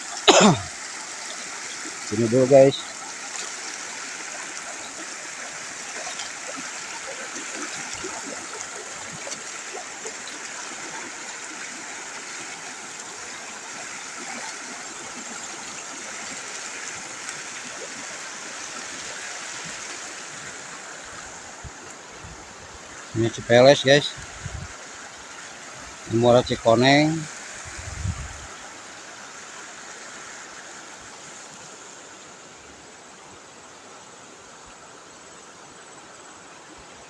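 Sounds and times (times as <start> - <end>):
river water rushing: 0.0 - 33.6.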